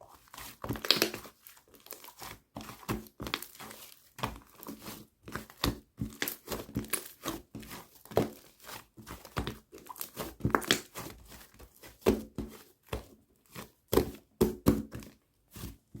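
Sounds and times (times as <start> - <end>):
crinkling and rustling: 0.0 - 16.0.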